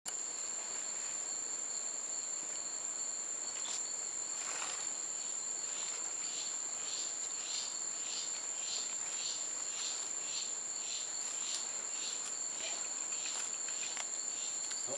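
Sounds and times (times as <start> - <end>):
insects droning: 0.1 - 14.9.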